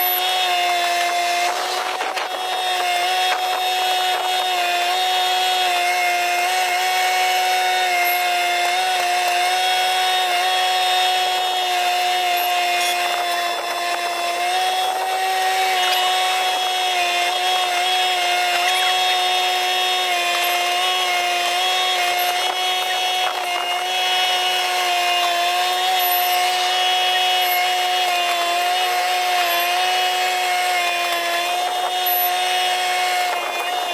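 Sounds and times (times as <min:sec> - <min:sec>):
air blower machine whine: 0:00.0 - 0:30.7.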